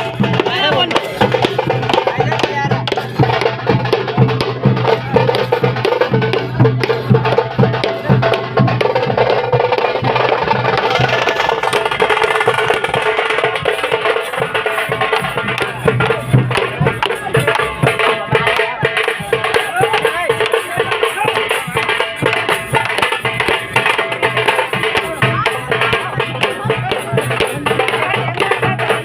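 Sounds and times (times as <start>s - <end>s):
fast drumming: 0.0s - 29.0s.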